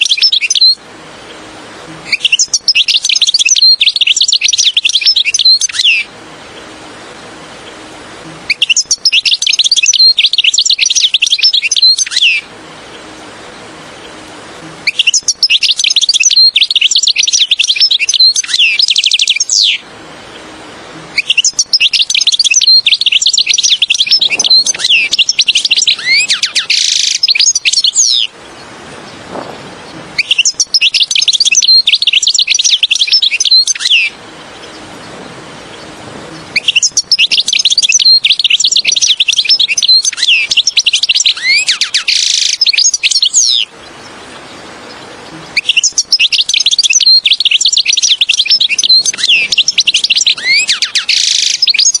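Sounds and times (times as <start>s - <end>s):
finch twittering song: 0.0s - 52.0s.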